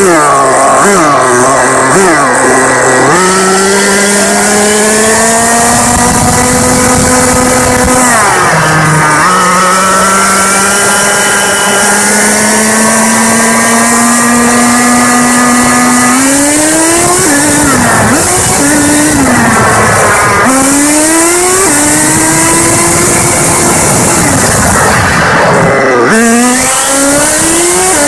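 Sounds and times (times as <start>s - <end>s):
small engine running at high revs: 0.0s - 28.0s.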